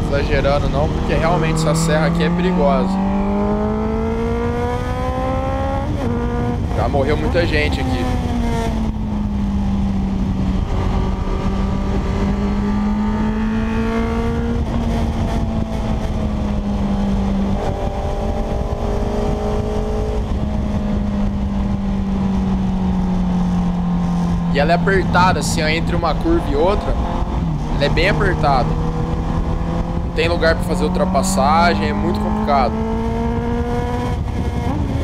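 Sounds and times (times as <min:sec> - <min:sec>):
motorcycle engine running: 0:00.0 - 0:35.0
wind rushing: 0:00.0 - 0:35.0.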